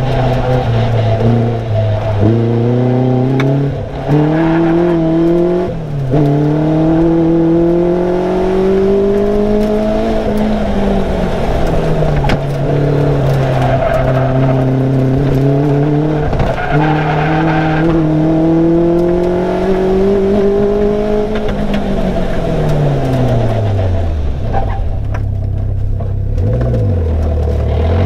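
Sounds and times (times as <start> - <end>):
car engine accelerating: 0.0 - 28.0
road noise: 0.0 - 28.0.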